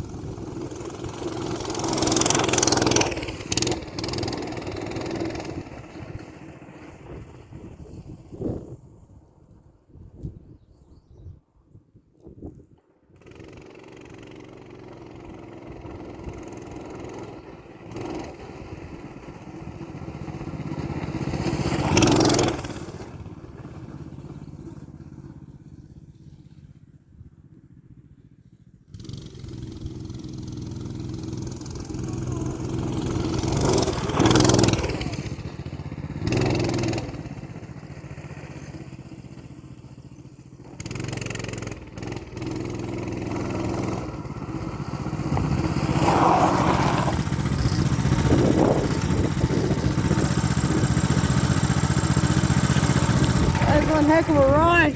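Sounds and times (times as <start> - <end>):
minibike engine passing: 0.0 - 9.9, 12.8 - 54.9.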